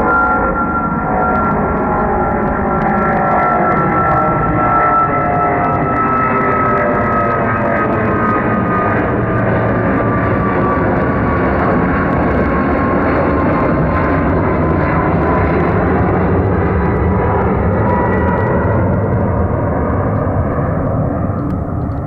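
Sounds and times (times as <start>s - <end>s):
jet engine whine: 0.0s - 22.0s
jet engines roaring: 0.0s - 22.0s.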